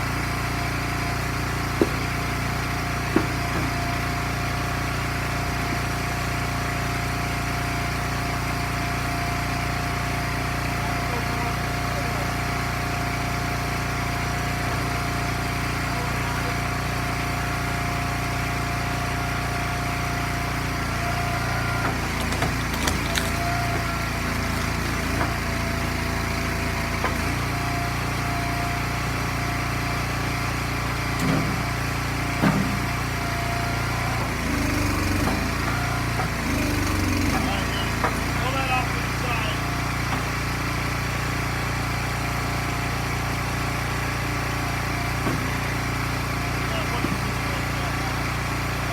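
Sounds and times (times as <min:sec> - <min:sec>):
small gasoline engine running: 0:00.0 - 0:48.9.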